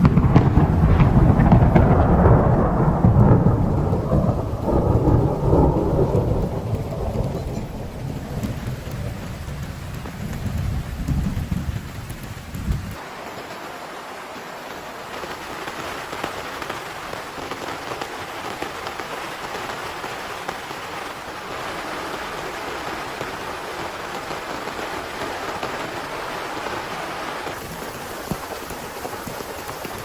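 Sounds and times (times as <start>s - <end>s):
heavy rain hissing: 0.0s - 30.0s
raindrops ticking on a surface: 0.0s - 30.0s.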